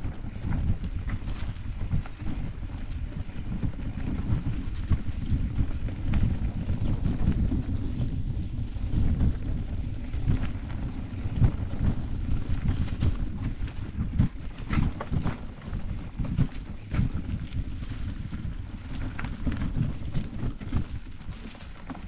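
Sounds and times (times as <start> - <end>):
bike clicking and rattling: 0.0 - 22.0
wind buffeting microphone: 0.0 - 22.0.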